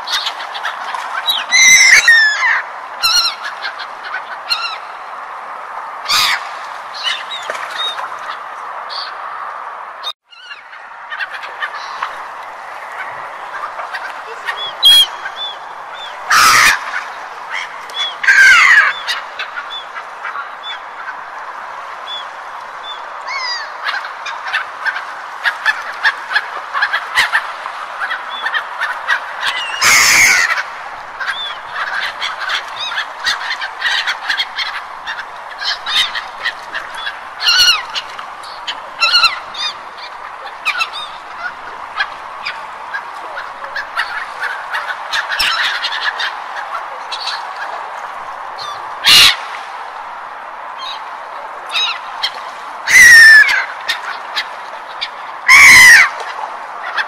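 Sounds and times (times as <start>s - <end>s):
gulls calling: 0.0s - 57.0s.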